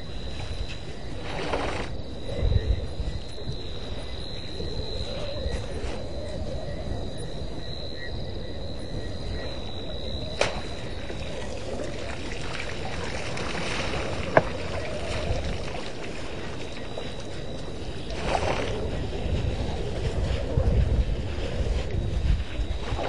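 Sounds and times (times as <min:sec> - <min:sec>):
high-pitched insect call: 0:00.0 - 0:23.0.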